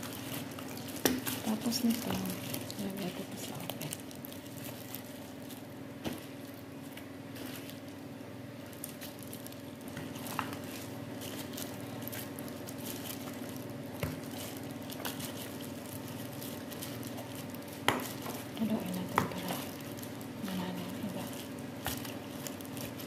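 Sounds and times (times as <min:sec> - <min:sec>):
wet squelching of fish in marinade: 0:00.0 - 0:18.6
steady low hum: 0:00.0 - 0:23.0.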